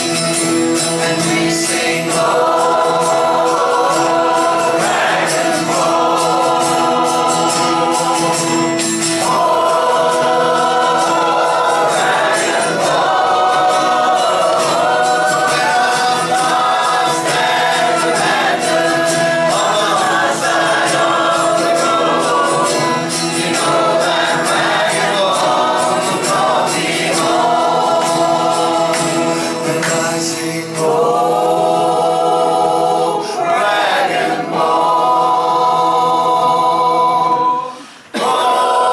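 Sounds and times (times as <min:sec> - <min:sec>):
folk instrumental accompaniment: 0:00.0 - 0:38.9
voices singing in harmony: 0:00.0 - 0:38.9.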